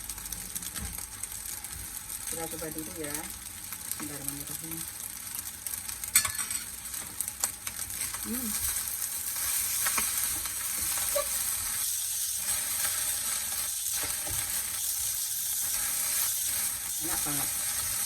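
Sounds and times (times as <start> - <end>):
fried rice sizzling in a pan: 0.0 - 18.0.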